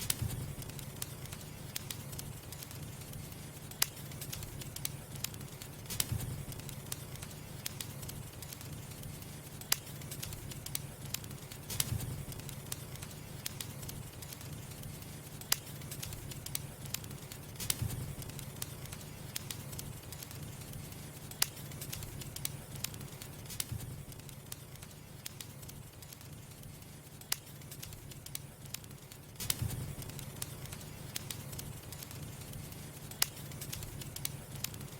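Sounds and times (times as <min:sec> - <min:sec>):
wood crackling and popping: 0:00.0 - 0:34.9.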